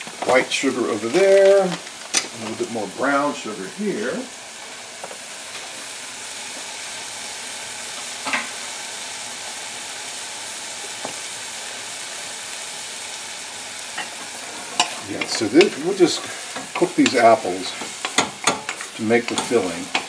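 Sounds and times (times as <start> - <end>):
apples sizzling in butter: 0.0 - 20.0.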